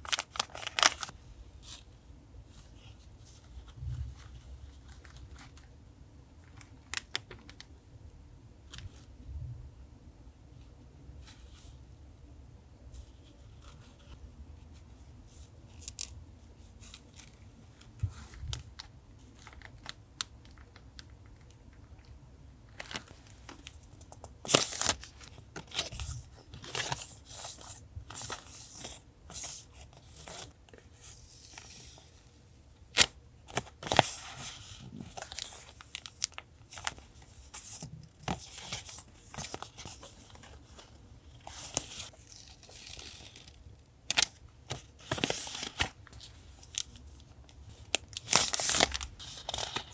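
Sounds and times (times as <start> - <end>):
paper rustling and crinkling: 0.0 - 1.9, 2.5 - 5.7, 13.0 - 21.1, 22.7 - 49.9.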